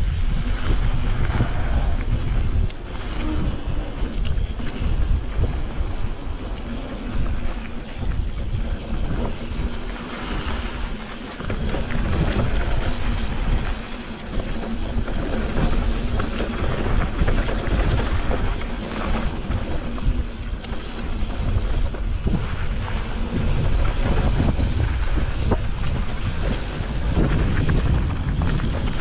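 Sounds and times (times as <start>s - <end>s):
bike rattling and knocking: 0.0s - 29.0s
heavy unsteady rumble: 0.0s - 29.0s
wind buffeting microphone: 0.0s - 29.0s.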